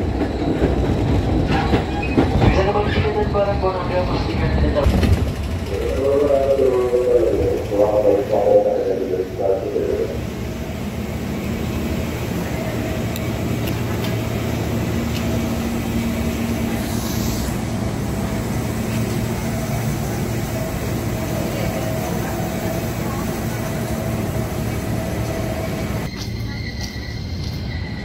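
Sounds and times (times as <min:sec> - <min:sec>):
electric train humming: 0:00.0 - 0:28.0.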